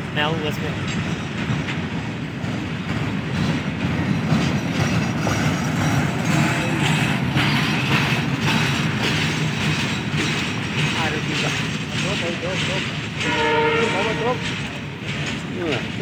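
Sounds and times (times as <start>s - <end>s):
train wheels rumbling on rails: 0.0s - 16.0s
wheels clacking over rail joints: 0.0s - 16.0s.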